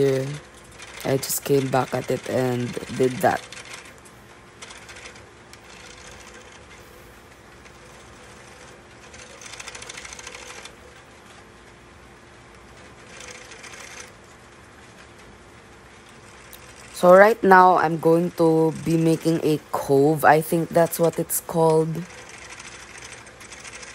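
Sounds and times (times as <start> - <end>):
lathe spindle working: 0.0 - 11.4, 12.5 - 23.9.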